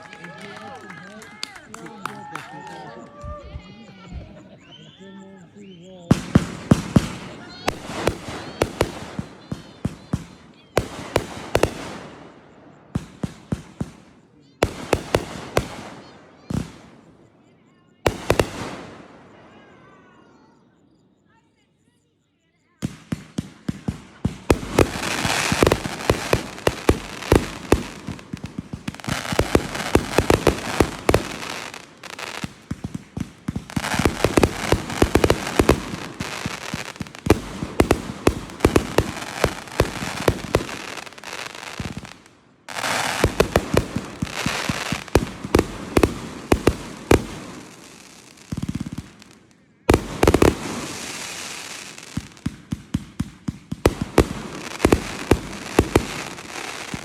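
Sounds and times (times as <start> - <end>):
fireworks bangs and crackles: 0.0 - 20.6, 22.7 - 57.0.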